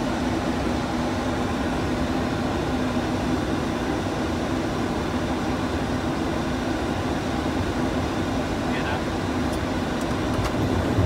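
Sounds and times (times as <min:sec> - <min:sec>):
air conditioning: 0:00.0 - 0:11.0
aircraft engines: 0:00.0 - 0:11.0.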